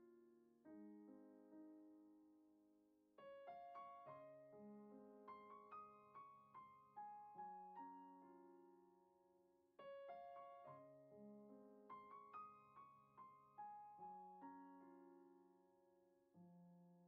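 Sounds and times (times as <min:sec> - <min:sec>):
quiet solo piano: 0:00.0 - 0:17.0.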